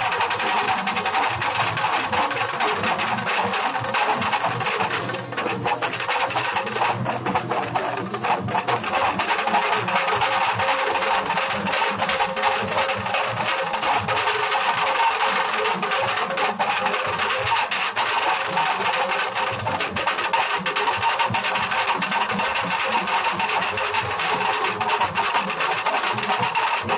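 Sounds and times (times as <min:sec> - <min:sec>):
dhol drums beaten with sticks: 0:00.0 - 0:26.9.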